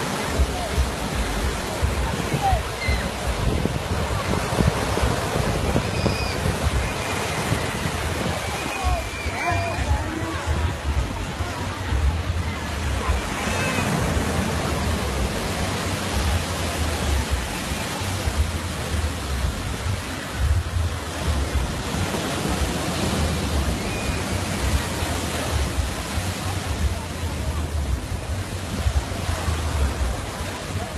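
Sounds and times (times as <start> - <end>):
surf washing onto beach: 0.0 - 30.9
wind buffeting microphone: 0.0 - 30.9.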